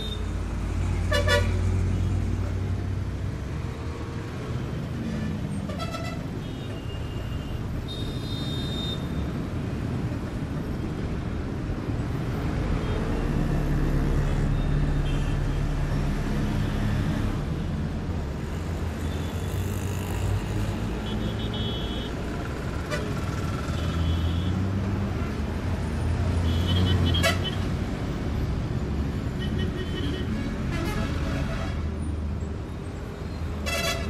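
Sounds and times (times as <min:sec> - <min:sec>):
rumble of vehicle engines: 0:00.0 - 0:34.0.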